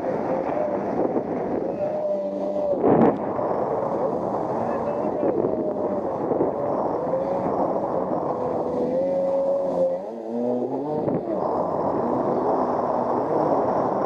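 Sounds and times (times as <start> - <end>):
jet ski engine: 0.0 - 14.0
rushing wind and water: 0.0 - 14.0.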